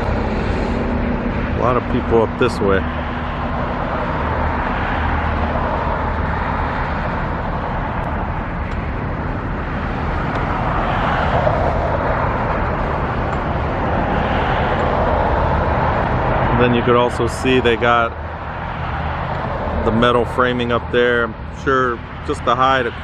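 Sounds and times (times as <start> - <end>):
road traffic noise: 0.0 - 23.0
vehicle passing: 0.0 - 23.0.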